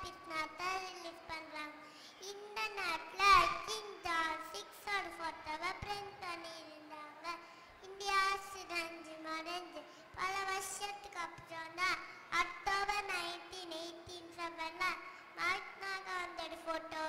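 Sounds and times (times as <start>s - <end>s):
girl singing: 0.0s - 17.0s.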